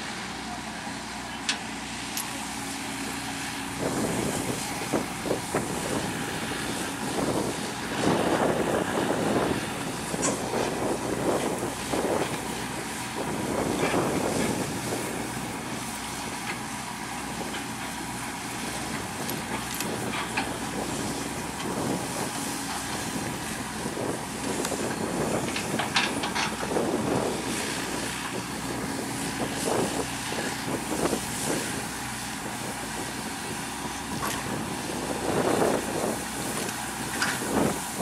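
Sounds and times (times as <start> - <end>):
heavy machinery engine running: 0.0 - 38.0
wind on microphone: 3.7 - 38.0.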